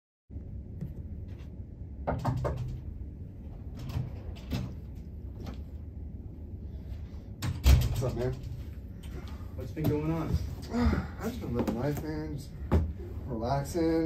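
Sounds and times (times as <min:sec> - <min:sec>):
low room hum: 0:00.3 - 0:14.0.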